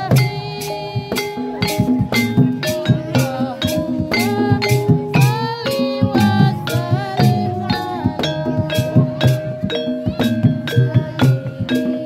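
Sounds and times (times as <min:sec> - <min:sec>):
drum strokes: 0:00.0 - 0:12.0.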